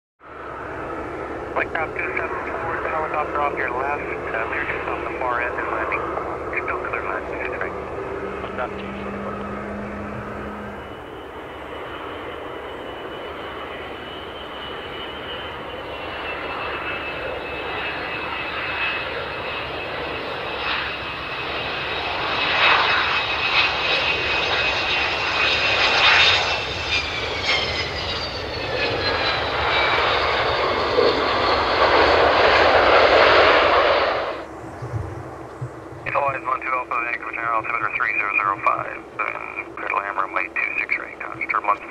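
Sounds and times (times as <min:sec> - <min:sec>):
jet roar with high whine: 0:00.2 - 0:41.9.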